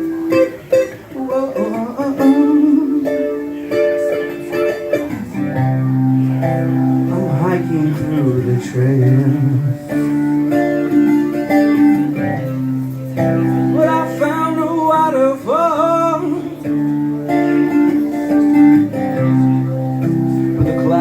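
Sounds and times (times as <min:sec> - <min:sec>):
guitar playing chords: 0:00.0 - 0:21.0.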